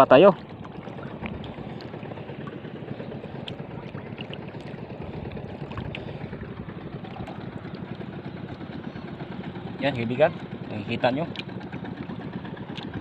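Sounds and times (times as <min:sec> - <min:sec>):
water sloshing against boat: 0:00.0 - 0:13.0.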